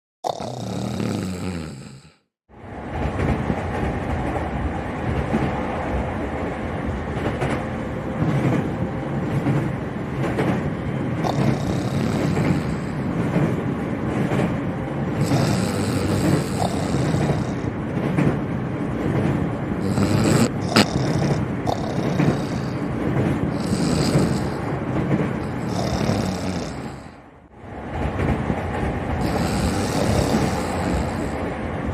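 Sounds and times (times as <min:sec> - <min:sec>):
train carriage rumbling: 0:02.5 - 0:31.9.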